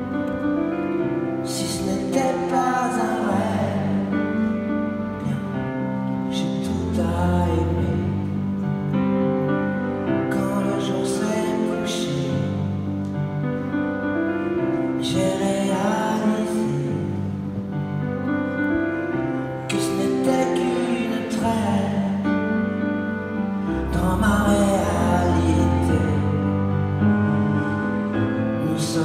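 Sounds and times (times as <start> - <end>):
held keyboard chords: 0.0 - 29.0.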